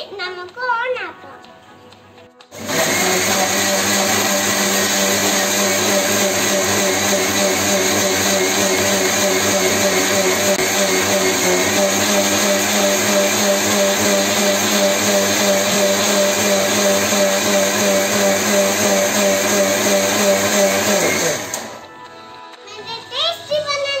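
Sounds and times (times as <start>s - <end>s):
mixer grinder motor running: 2.5s - 21.9s.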